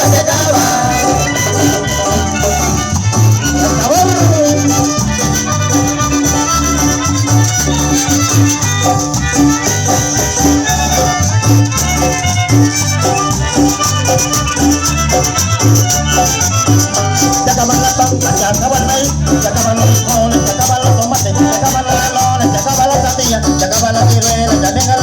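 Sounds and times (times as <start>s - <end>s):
band playing instrumental cumbia: 0.0s - 25.0s.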